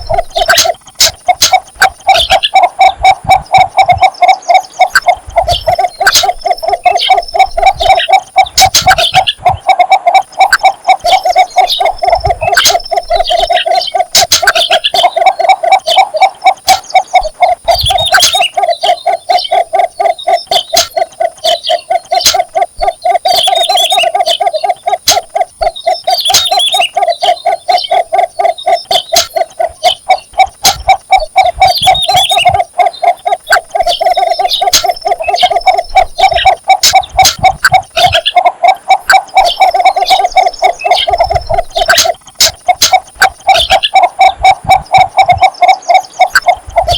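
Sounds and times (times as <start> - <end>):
bittern clucking call: 0.0 - 46.9
faint high chirps and clicks: 0.0 - 46.9.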